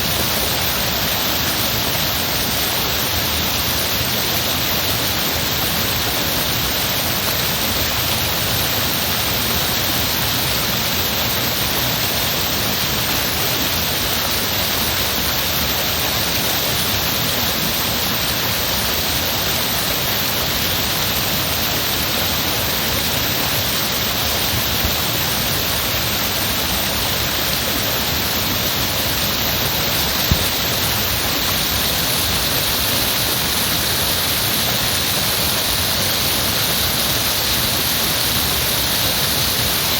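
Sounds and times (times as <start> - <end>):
heavy running water: 0.0 - 39.9.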